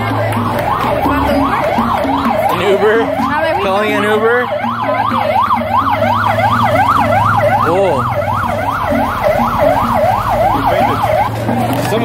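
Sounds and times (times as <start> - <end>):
siren fast wail: 0.0 - 11.5.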